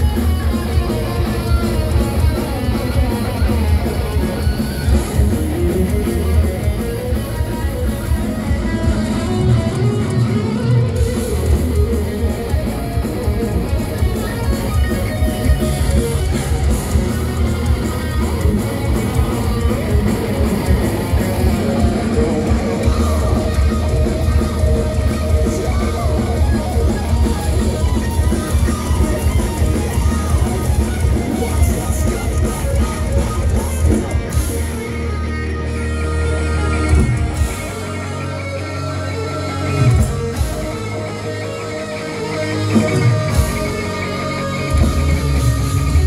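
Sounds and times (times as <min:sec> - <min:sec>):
distorted electric guitars: 0:00.0 - 0:46.0
drum kit: 0:00.0 - 0:46.0.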